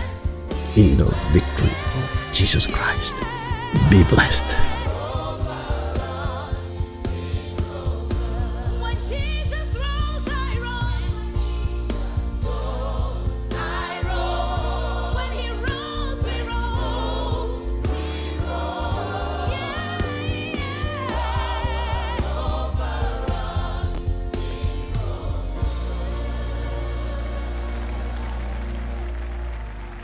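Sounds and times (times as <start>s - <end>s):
bass and drum beat: 0.0s - 29.0s
gospel singing voices: 0.0s - 30.0s.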